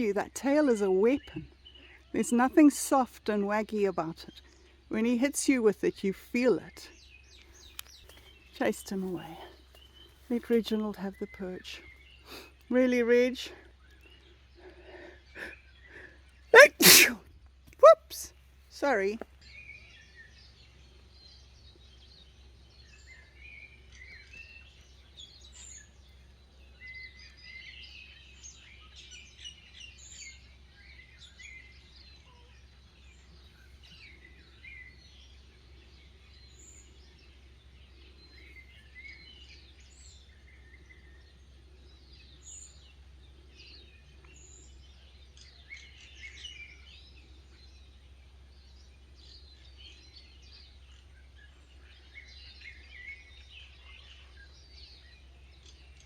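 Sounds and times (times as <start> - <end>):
birds chirping: 0.0 - 17.2, 17.8 - 56.0.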